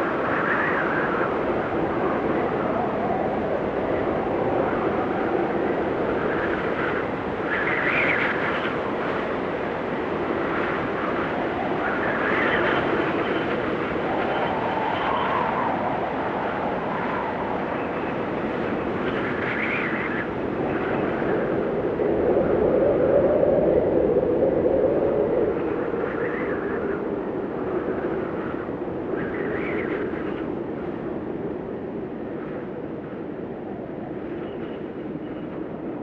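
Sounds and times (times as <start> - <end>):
blizzard wind whistling: 0.0 - 36.0.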